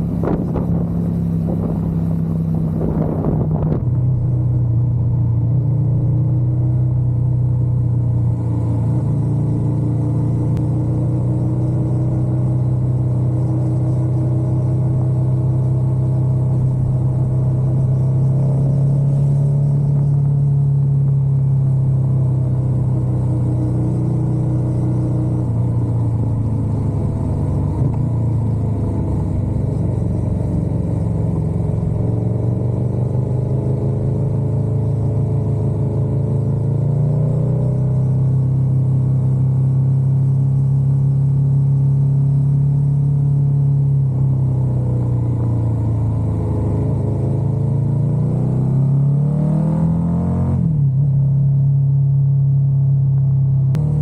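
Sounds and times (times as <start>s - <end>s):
motorcycle engine revving: 0.0s - 4.3s, 7.0s - 51.4s, 53.7s - 54.0s.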